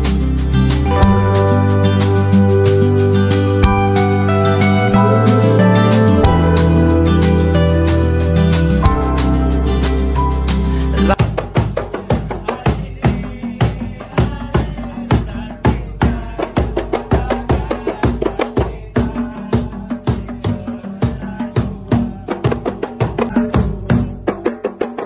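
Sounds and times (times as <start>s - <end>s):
frame drums beating fast rhythm: 0.0s - 25.0s.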